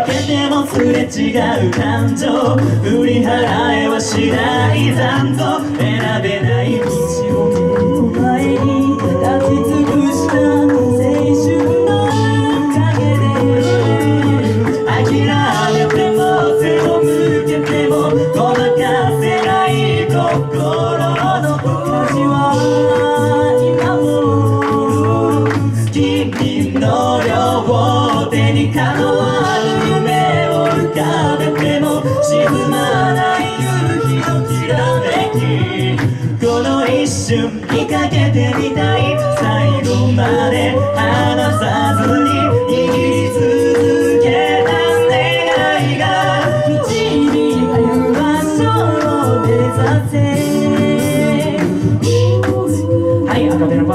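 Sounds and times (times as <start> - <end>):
a cappella group singing: 0.0 - 53.9
vocal percussion beat: 0.0 - 53.9.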